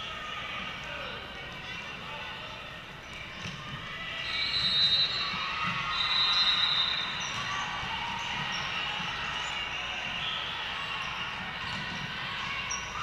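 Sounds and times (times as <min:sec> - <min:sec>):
din of busy sports hall: 0:00.0 - 0:13.0.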